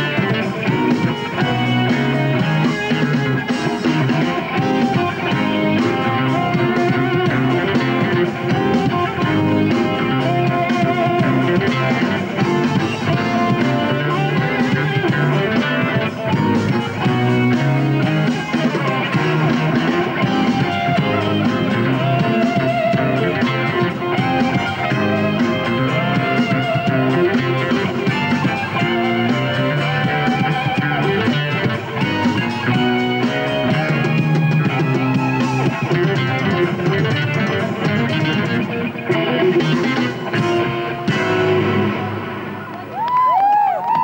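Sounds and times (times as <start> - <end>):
electric guitar: 0.0 - 44.0
live rock band playing: 0.0 - 44.0.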